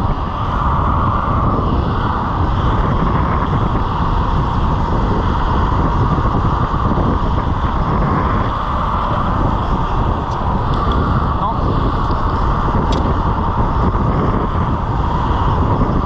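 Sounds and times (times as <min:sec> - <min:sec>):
longboard wheels rolling on asphalt: 0:00.0 - 0:16.0
wind buffeting microphone: 0:00.0 - 0:16.0.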